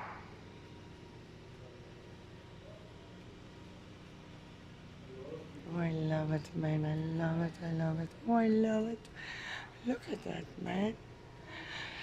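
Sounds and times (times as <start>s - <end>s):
faint background hum and hiss: 0.0s - 12.0s.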